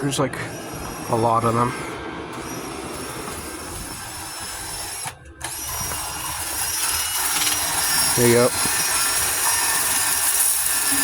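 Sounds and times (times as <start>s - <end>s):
power sander whining: 0.0s - 11.0s.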